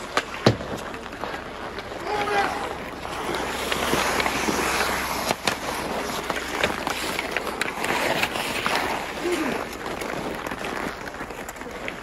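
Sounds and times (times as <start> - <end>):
hockey sticks clacking: 0.0 - 12.0
skates scraping on ice: 0.0 - 12.0.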